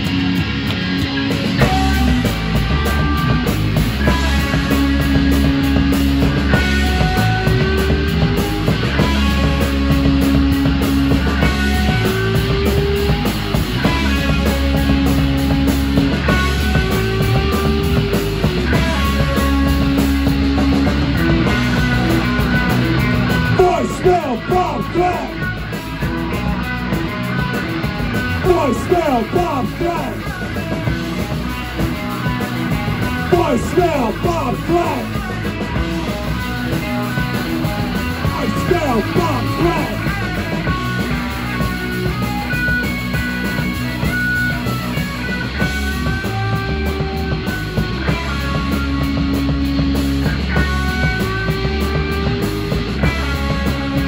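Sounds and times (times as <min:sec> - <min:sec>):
electric guitar notes bending: 0:00.0 - 0:54.0
punk rock band playing: 0:00.0 - 0:54.0.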